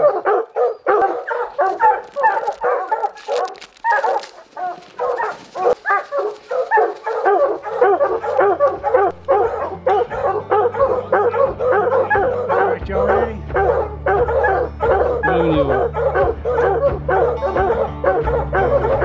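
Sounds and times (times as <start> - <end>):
hounds baying and barking: 0.0 - 19.0.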